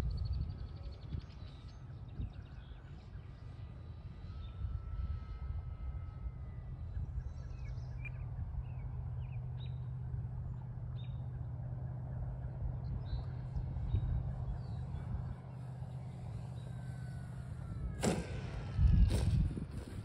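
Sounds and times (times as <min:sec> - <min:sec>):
birds chirping: 0:00.0 - 0:19.2
distant electric motor whine: 0:00.0 - 0:20.0
wind rumble on microphone: 0:00.0 - 0:20.0.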